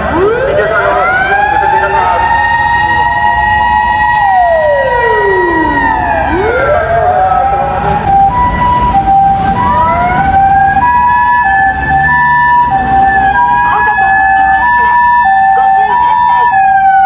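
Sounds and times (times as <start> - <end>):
mechanical motor siren wail: 0.0 - 17.0
second siren steady wail: 0.0 - 17.0
two-tone ambulance siren: 0.0 - 17.0.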